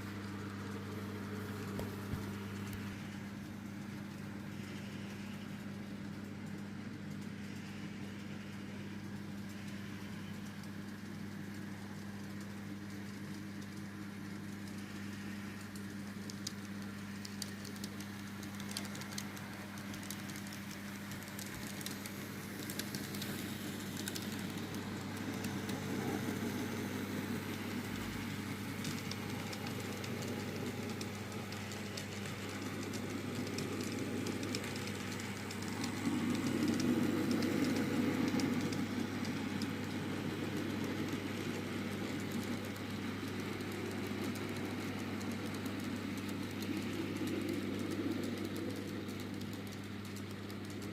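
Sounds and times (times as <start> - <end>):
model train running on track: 0.0 - 50.9.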